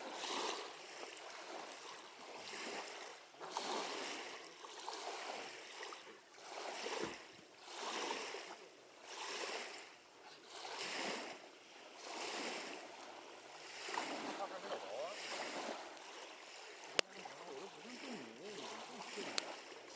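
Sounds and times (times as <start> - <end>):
lake waves lapping on shore: 0.0 - 19.9.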